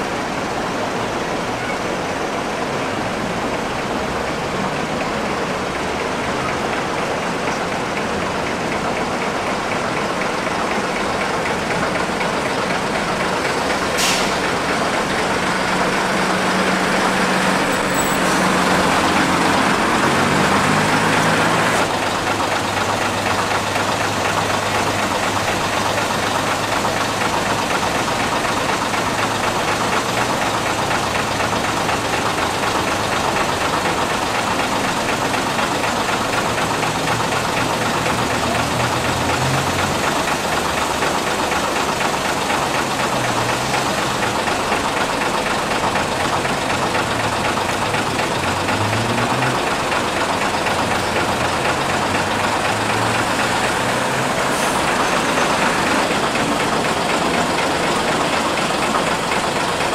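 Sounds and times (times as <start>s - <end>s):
heavy bus engines idling: 0.0s - 59.9s.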